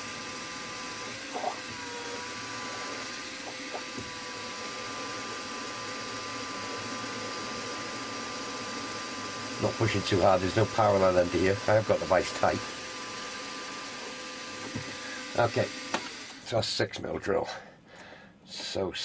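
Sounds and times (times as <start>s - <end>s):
milling machine drilling metal: 0.0s - 16.5s.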